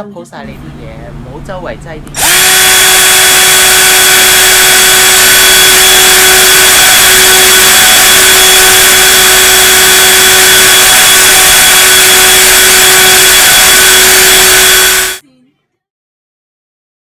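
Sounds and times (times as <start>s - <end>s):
loud machine noise: 0.6s - 15.2s.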